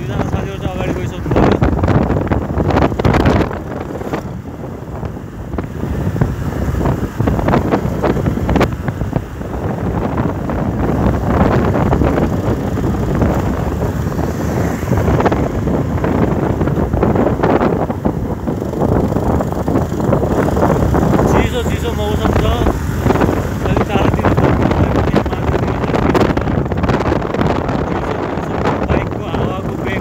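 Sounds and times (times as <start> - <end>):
motorcycle engine running: 0.0 - 30.0
road noise: 0.0 - 30.0
wind buffeting microphone: 0.0 - 30.0.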